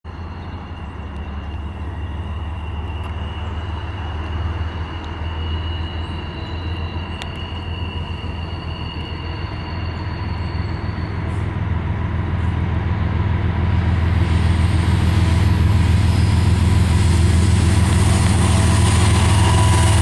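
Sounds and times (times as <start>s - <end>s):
diesel train low drone: 0.1s - 20.0s
rail noise: 0.1s - 20.0s.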